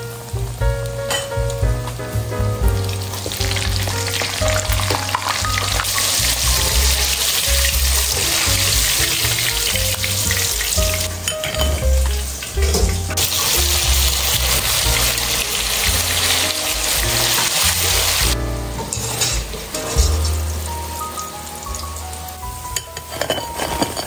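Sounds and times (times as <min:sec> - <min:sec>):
background music with bass: 0:00.0 - 0:24.0
hot oil sizzling: 0:00.0 - 0:24.0.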